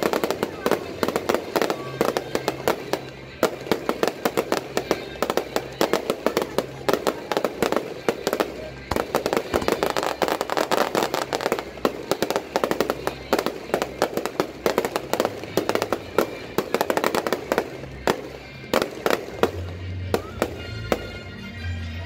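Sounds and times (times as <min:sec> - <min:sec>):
fireworks bangs and crackle: 0:00.0 - 0:21.3.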